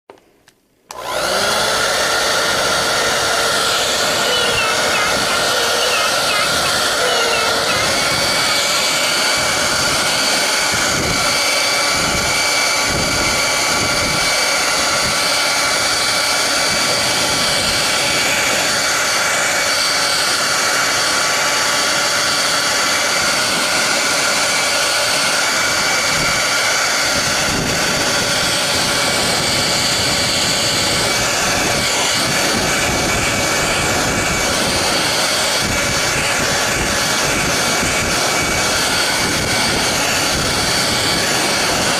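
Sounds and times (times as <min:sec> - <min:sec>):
hair dryer running: 0:00.9 - 0:41.9.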